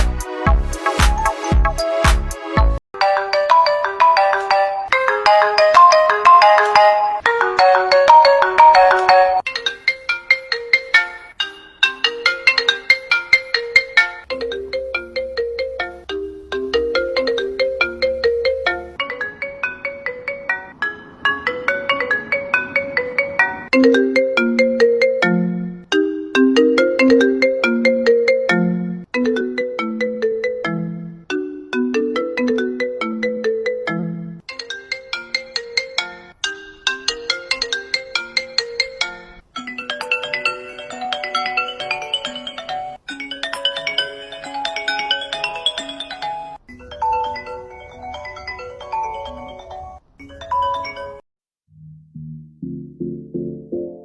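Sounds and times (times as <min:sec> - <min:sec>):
phone ringtone melodies: 0:00.9 - 0:01.9, 0:03.0 - 0:51.2.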